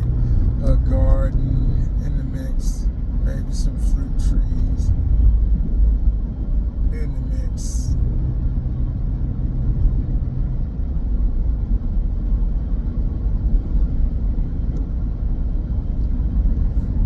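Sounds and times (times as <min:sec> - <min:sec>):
car road rumble: 0:00.0 - 0:17.0
low hum: 0:00.0 - 0:17.0.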